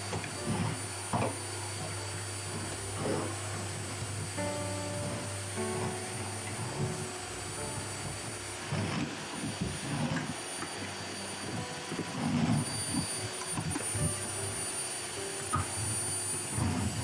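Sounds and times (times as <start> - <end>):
faint background music: 0.0 - 17.0
vacuum cleaner whooshing hum: 0.0 - 17.0.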